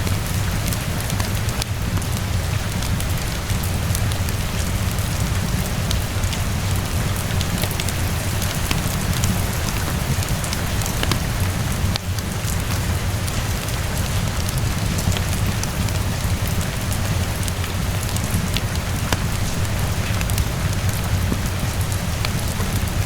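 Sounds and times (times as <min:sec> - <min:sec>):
steady rainfall: 0:00.0 - 0:23.0
wood fire crackling: 0:00.0 - 0:23.0.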